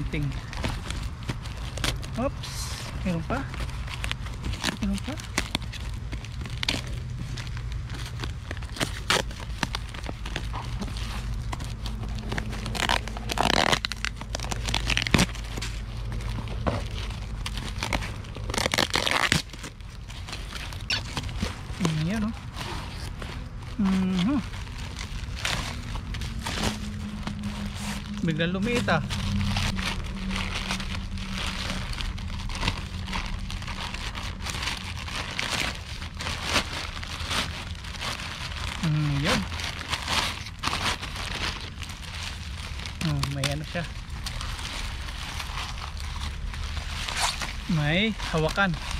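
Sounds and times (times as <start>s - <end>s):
packaging crinkling: 0.0s - 48.9s
packaging tearing: 0.0s - 48.9s
steady low hum: 0.0s - 48.9s.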